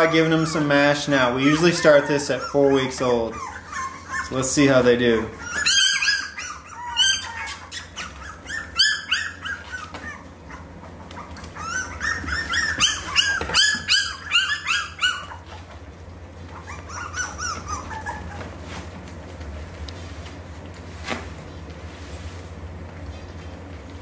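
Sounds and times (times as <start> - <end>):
puppies whining and yelping: 0.0 - 20.4.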